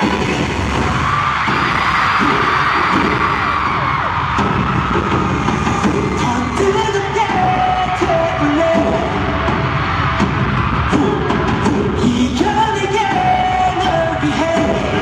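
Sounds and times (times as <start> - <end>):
audience screaming: 0.0 - 15.0
pop music with heavy bass: 0.0 - 15.0.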